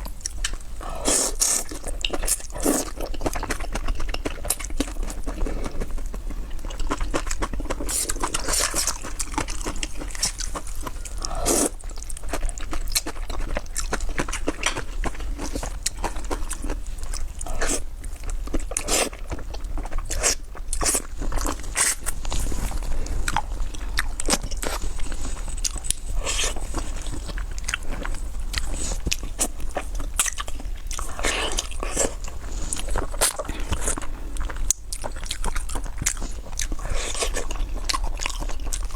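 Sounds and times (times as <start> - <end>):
chewing with crisp crunches: 0.0 - 38.9.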